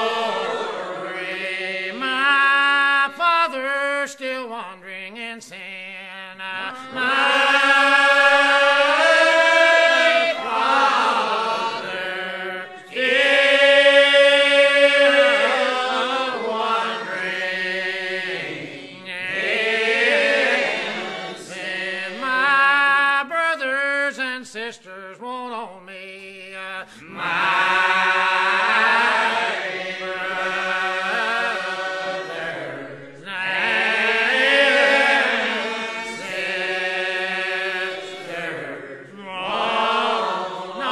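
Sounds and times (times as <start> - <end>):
unaccompanied hymn singing: 0.0 - 40.9.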